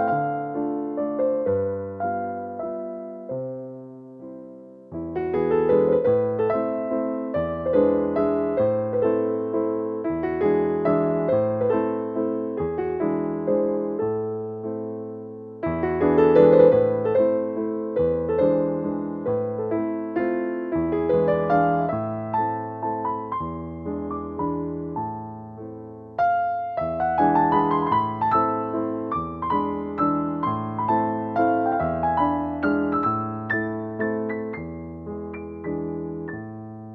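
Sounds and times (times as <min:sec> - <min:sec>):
gentle piano piece: 0:00.0 - 0:36.9.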